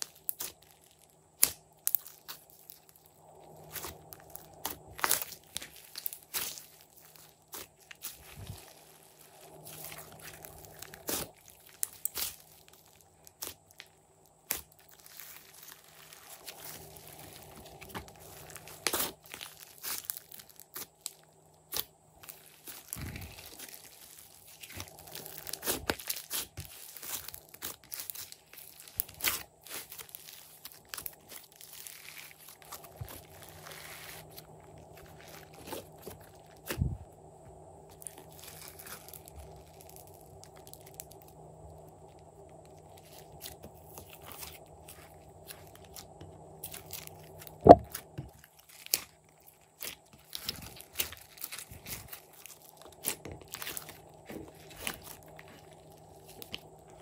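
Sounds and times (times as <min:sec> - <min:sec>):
hands squishing slime: 0:00.0 - 0:37.0, 0:37.9 - 0:41.2, 0:42.0 - 0:57.0.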